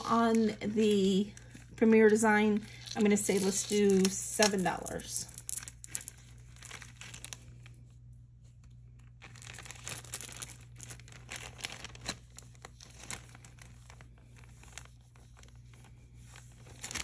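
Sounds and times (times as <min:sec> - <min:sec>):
plastic bag crinkling: 0:00.0 - 0:08.0, 0:08.6 - 0:17.0.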